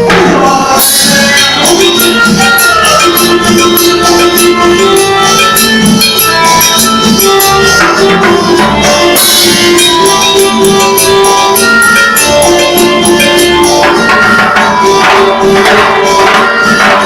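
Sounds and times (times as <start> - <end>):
crisp high percussion beat: 0.0 - 17.0
held electronic keyboard notes: 0.8 - 17.0.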